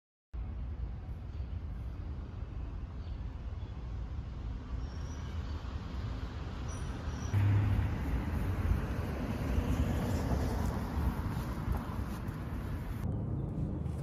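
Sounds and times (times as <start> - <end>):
road traffic rumble: 0.4 - 14.0.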